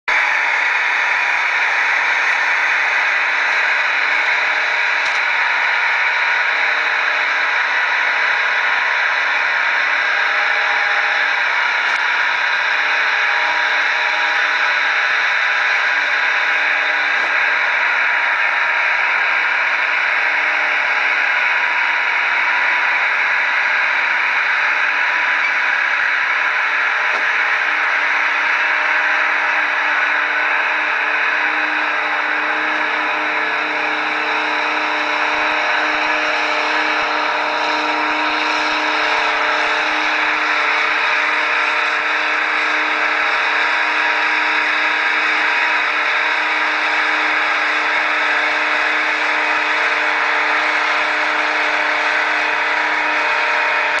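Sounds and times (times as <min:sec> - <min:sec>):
tractor diesel engine droning: 0:00.1 - 0:54.0.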